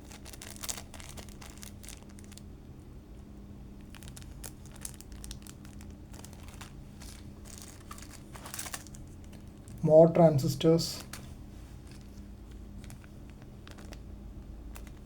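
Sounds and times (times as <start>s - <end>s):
packaging crinkling and rustling: 0.0s - 2.5s, 3.8s - 9.8s, 11.0s - 15.0s
faint low hum: 0.0s - 15.0s.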